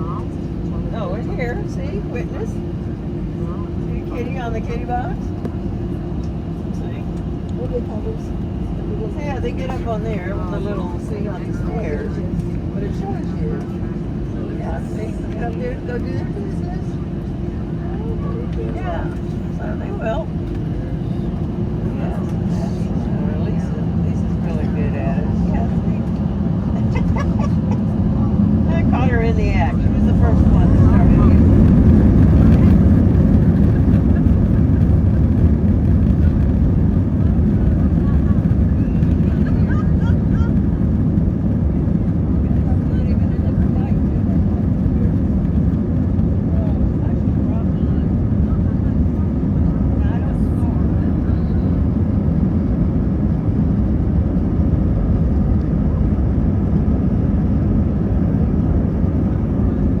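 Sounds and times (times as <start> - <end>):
airplane cabin engine rumble: 0.0 - 60.0.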